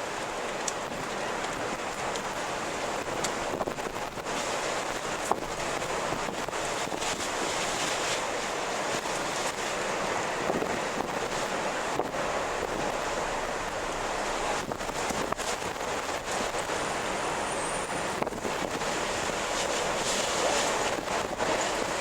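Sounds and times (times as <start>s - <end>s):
strong wind blowing: 0.4s - 22.0s.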